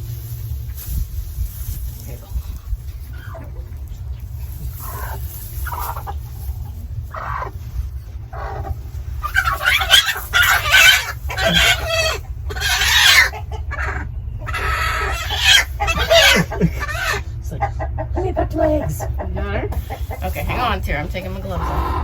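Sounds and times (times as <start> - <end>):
hen clucking: 2.0 - 22.0
hen squawking: 3.0 - 17.4, 18.7 - 22.0.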